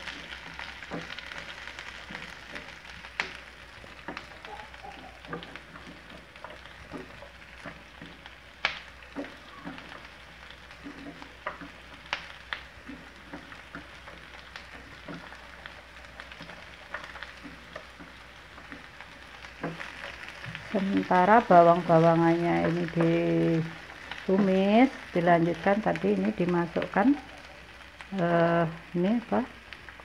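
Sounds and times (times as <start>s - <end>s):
spatula stirring in pan: 0.0s - 28.1s
oil popping: 0.0s - 30.0s
onions sizzling in hot oil: 0.0s - 30.0s.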